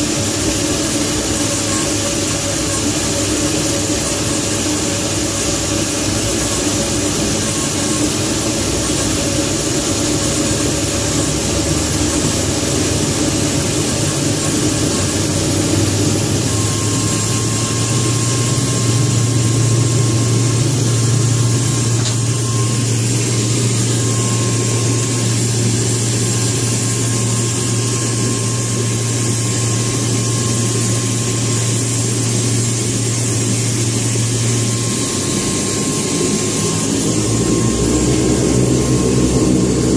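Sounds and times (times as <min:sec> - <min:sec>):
low drone: 0:00.0 - 0:39.9
turboprop engines running: 0:00.0 - 0:39.9.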